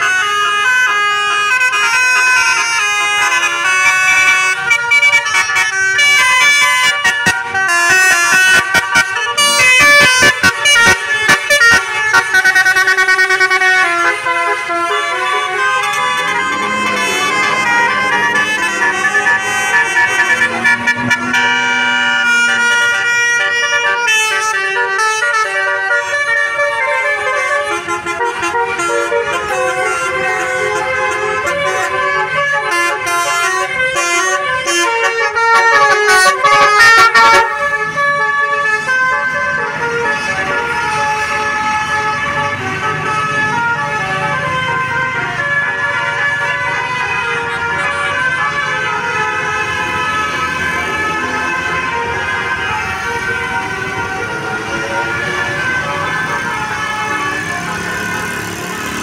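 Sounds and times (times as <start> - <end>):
musical air horns playing tunes: 0.0 - 59.0.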